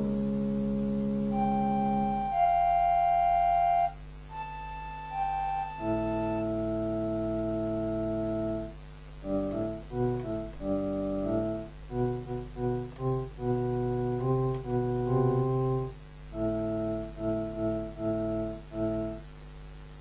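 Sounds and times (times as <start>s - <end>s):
electronic keyboard solo: 0.0s - 19.3s.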